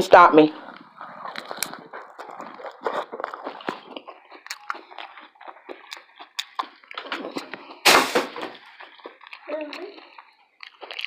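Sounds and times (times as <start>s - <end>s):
chewing and biting food: 0.5s - 11.0s
food crunching: 0.5s - 11.0s
wet mouth clicks and smacks: 0.8s - 7.8s, 8.6s - 11.0s.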